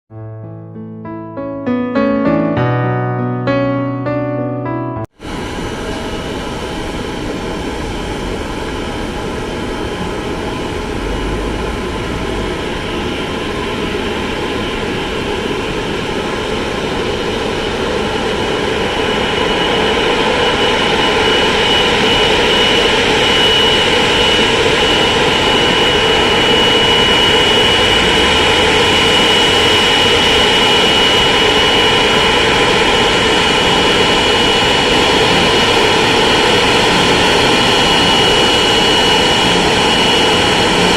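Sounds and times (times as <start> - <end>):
jet engines whining: 5.2 - 40.9.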